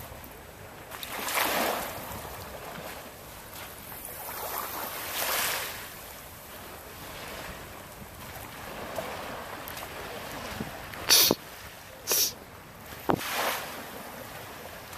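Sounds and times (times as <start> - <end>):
small waves on sandy shore: 0.0 - 14.9.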